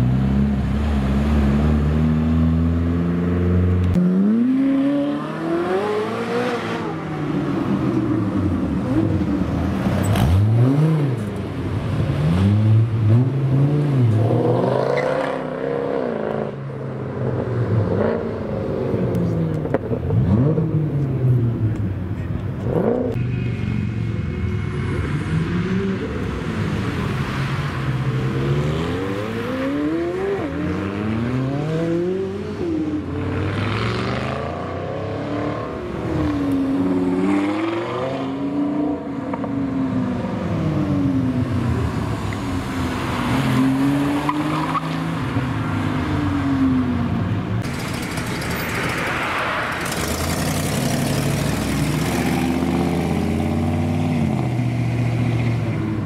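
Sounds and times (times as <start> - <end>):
sports cars accelerating: 0.0 - 21.9, 22.6 - 23.2, 24.8 - 47.3.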